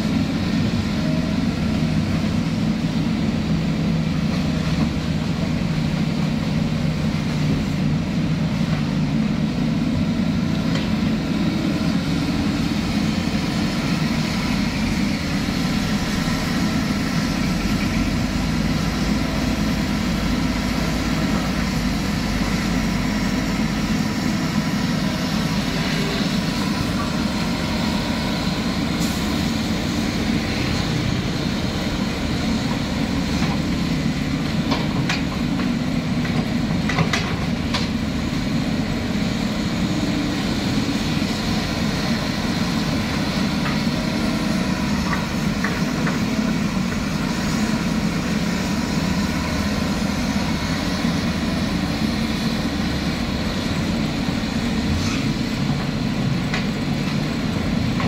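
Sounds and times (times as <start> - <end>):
diesel engines rumbling: 0.0 - 58.0.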